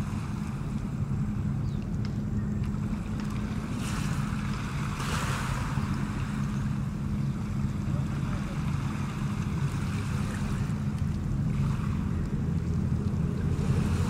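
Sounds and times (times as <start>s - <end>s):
motor running with low drone: 0.0s - 14.0s.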